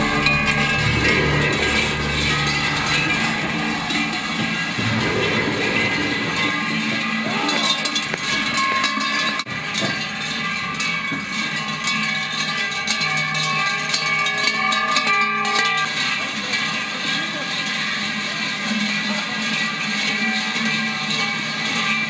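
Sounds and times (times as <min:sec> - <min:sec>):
large cowbells clanging: 0:00.0 - 0:22.0.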